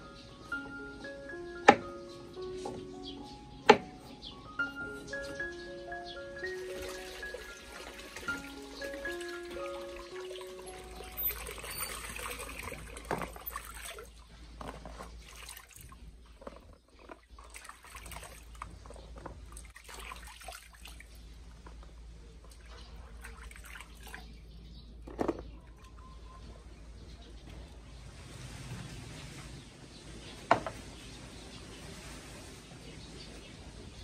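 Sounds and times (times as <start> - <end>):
water trickling and splashing: 5.0 - 26.3, 27.2 - 34.0.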